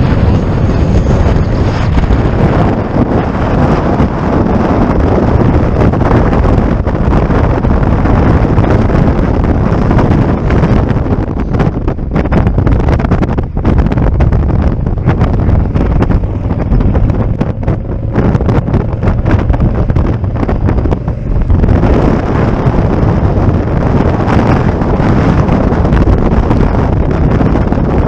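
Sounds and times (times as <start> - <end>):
road and motorcycle engine noise: 0.0 - 28.0
wind buffeting microphone: 0.0 - 28.0.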